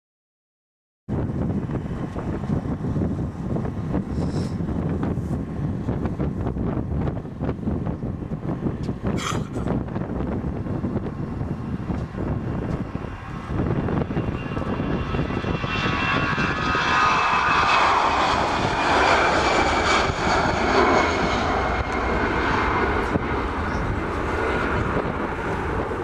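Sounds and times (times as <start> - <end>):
jet engines roaring past: 1.1 - 26.0.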